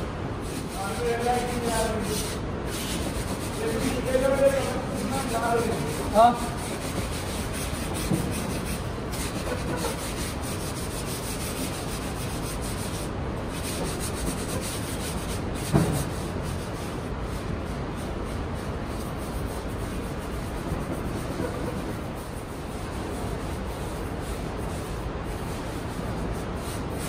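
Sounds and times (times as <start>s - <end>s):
hand rubbing ceramic surface: 0.4s - 27.0s.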